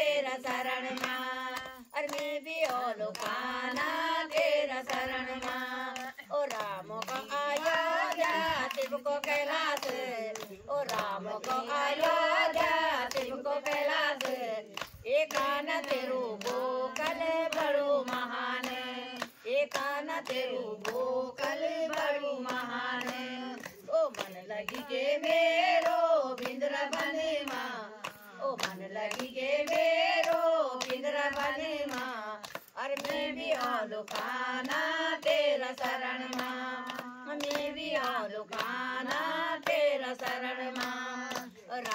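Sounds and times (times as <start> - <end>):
hand-clapping: 0.0 - 41.9
women singing devotional song: 0.0 - 41.9.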